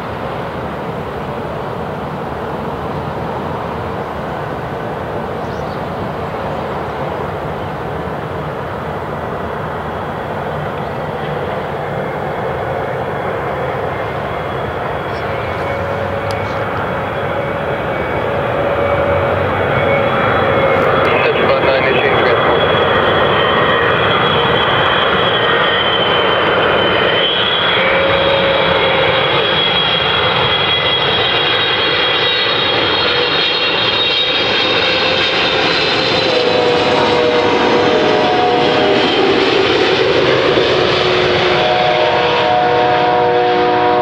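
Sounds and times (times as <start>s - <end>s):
jet engines with high whine: 0.0s - 44.0s.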